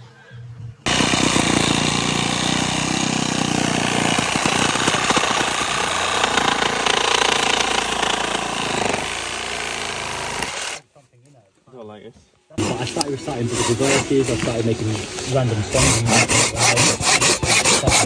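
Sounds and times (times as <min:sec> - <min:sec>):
reciprocating saw cutting log: 0:00.9 - 0:10.8, 0:12.6 - 0:18.0.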